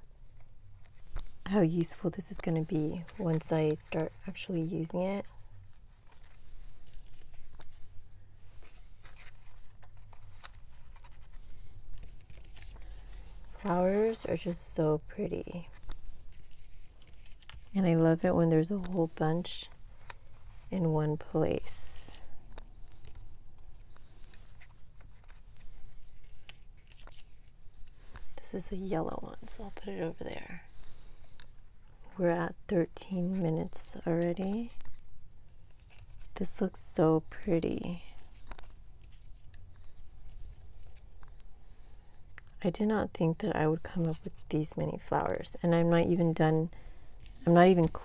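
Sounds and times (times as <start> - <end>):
paper rustling and crinkling: 0.0 - 32.2, 33.1 - 36.7, 37.8 - 42.6, 45.2 - 48.0.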